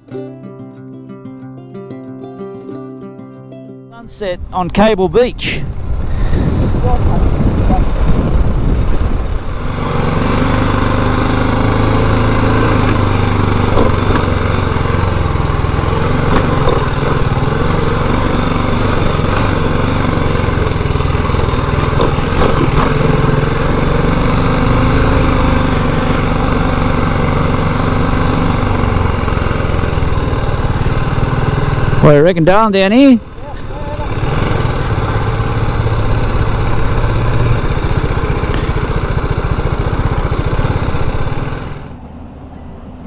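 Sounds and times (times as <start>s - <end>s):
motorcycle engine running: 5.4s - 42.0s.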